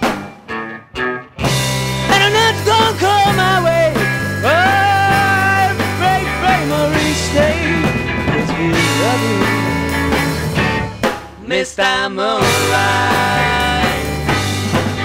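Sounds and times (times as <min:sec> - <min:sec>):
lead guitar bending notes: 0:00.0 - 0:11.0, 0:12.6 - 0:15.0
bass line: 0:00.0 - 0:11.5, 0:12.4 - 0:15.0
drum kit: 0:00.0 - 0:11.6, 0:12.4 - 0:15.0.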